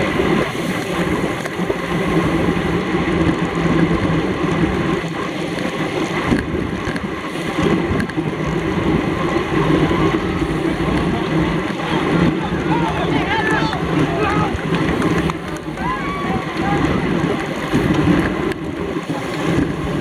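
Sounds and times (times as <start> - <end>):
tyres rolling on road: 0.0 - 20.0
wind rushing over microphone: 0.0 - 20.0.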